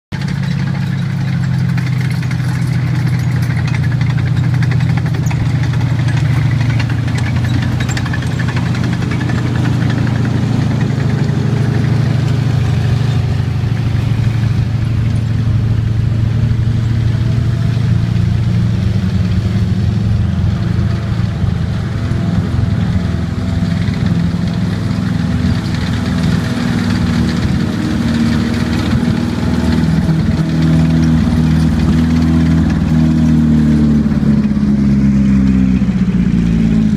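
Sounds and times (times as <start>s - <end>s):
tank engine running: 0.1s - 36.9s
tank tracks on gravel: 0.2s - 36.9s.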